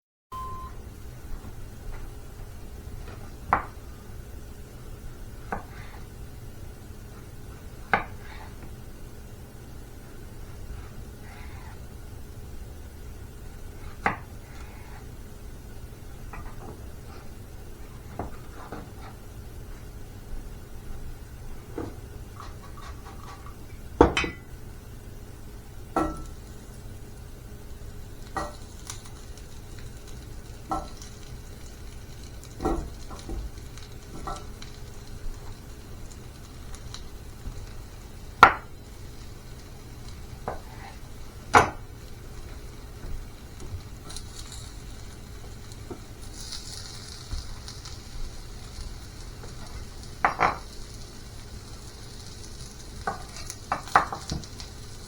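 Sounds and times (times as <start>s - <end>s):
low steady hum: 0.3s - 55.0s.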